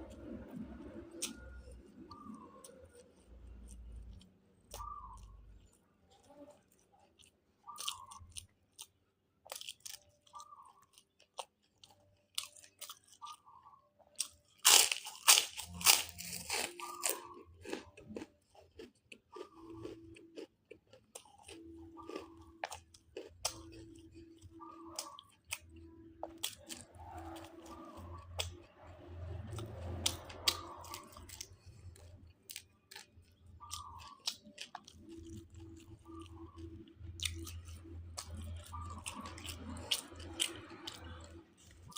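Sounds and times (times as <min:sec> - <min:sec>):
person chewing and crunching: 0:00.0 - 0:41.9.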